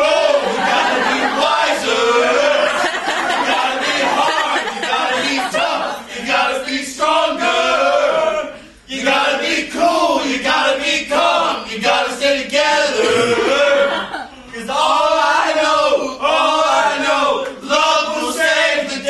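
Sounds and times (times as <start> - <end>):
men singing chant-like phrases: 0.0 - 19.0.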